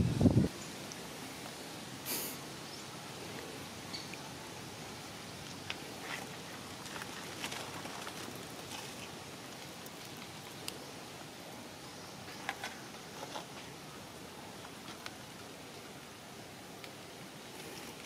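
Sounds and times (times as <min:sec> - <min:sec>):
outdoor background hiss: 0:00.0 - 0:18.0
rustles: 0:00.0 - 0:18.0.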